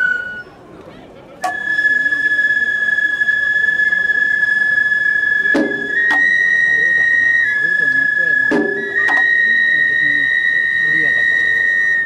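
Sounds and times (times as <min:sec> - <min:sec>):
bamboo flute long high note: 0:00.0 - 0:00.6, 0:01.4 - 0:12.0.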